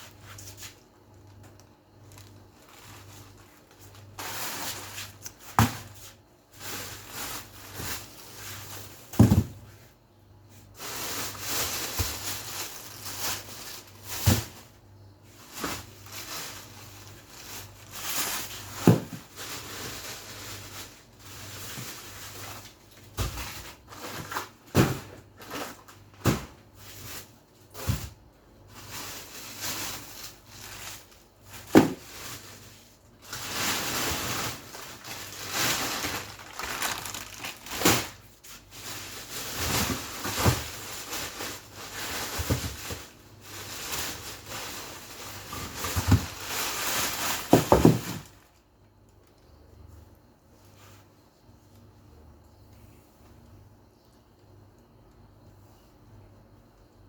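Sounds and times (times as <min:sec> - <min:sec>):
plastic bags rustling: 0:00.0 - 0:48.7.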